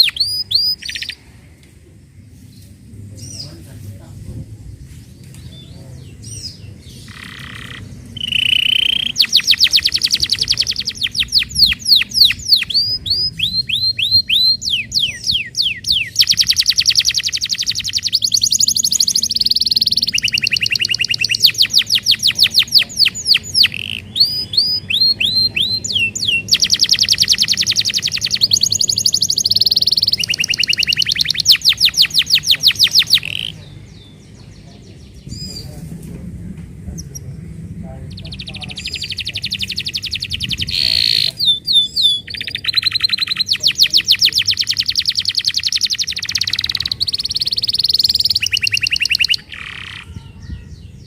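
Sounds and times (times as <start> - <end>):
canary singing trills: 0.0 - 1.3, 5.1 - 35.9, 36.8 - 51.0.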